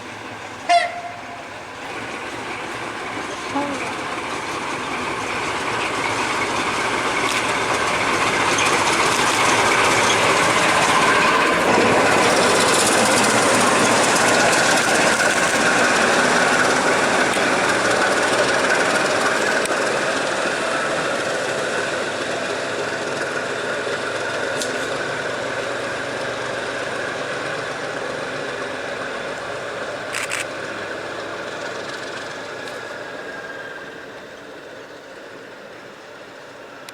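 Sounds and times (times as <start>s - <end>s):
train rumbling on rails: 0.0s - 36.9s.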